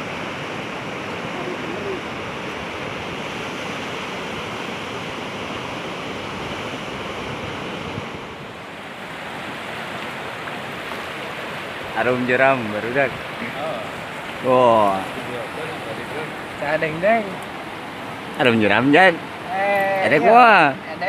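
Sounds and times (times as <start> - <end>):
flooded river rushing: 0.0 - 21.0.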